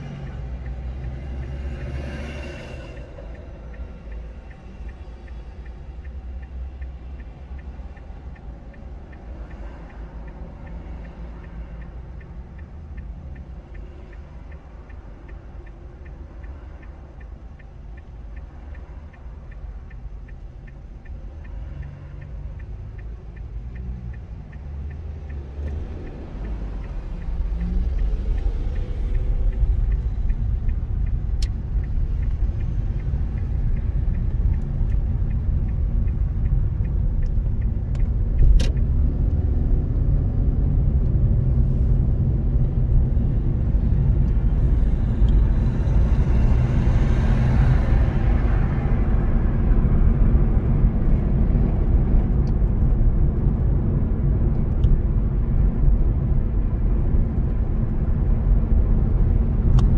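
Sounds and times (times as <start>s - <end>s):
car engine and tyre rumble: 0.0s - 59.9s
indicator ticking: 0.0s - 59.9s.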